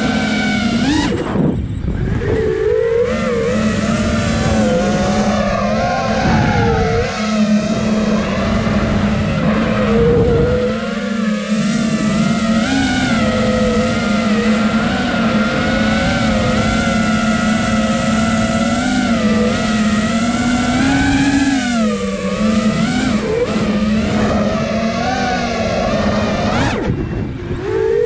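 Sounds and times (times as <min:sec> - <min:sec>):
quadcopter propellers whining: 0:00.0 - 0:28.0.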